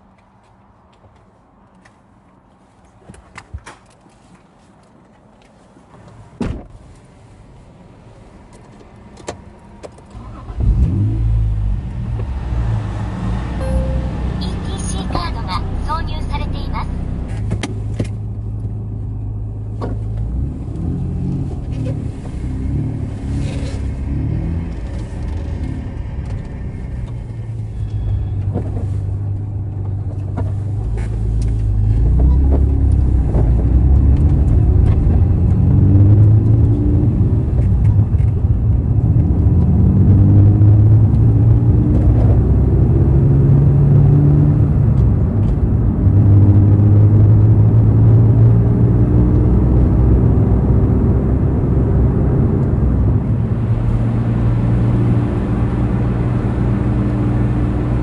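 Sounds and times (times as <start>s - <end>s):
car engine accelerating: 9.2s - 58.0s.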